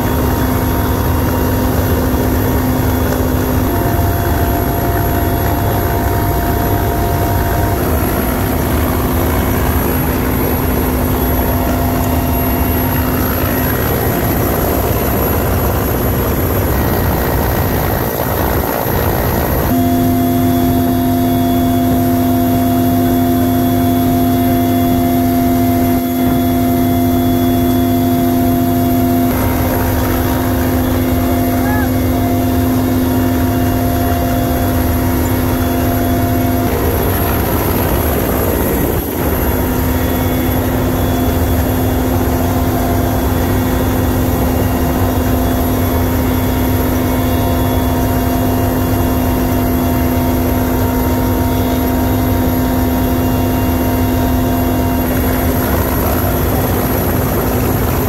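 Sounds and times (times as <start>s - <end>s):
rush of wind: 0.0s - 19.8s, 22.0s - 58.0s
helicopter engine drone and whine: 0.0s - 58.0s.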